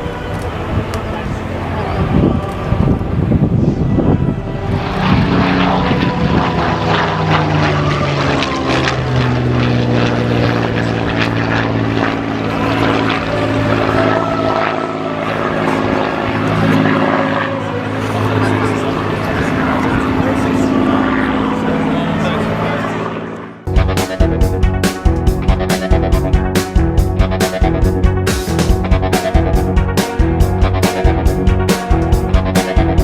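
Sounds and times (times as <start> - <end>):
propeller aircraft droning: 0.0 - 33.0.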